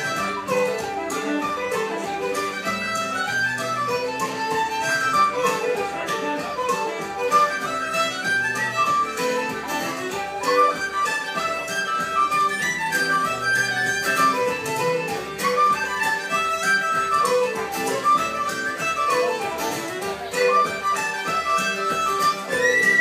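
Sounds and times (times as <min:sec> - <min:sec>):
fiddle playing fast dance tune: 0:00.0 - 0:23.0
low accompaniment beat: 0:00.0 - 0:23.0.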